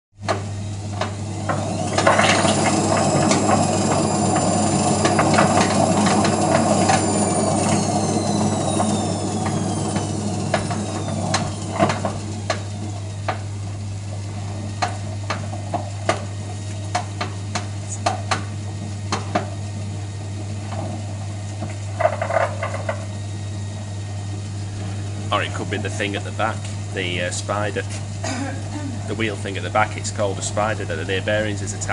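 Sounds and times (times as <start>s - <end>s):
washing machine high whine: 0.2s - 31.9s
washing machine low hum: 0.2s - 31.9s.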